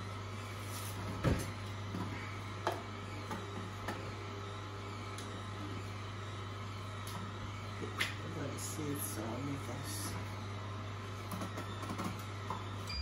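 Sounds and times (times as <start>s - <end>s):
juicer humming: 0.0s - 13.0s.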